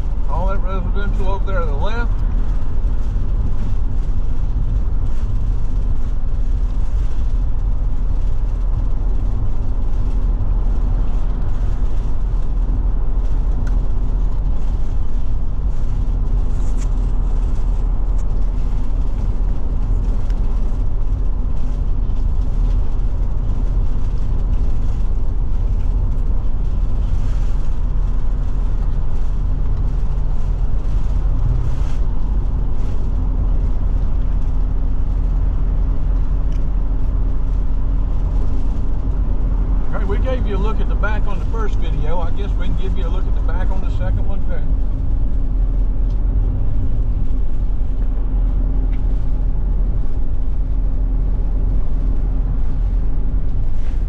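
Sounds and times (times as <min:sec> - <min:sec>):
constant hum: 0:00.0 - 0:54.0
engine and road drone: 0:00.0 - 0:54.0.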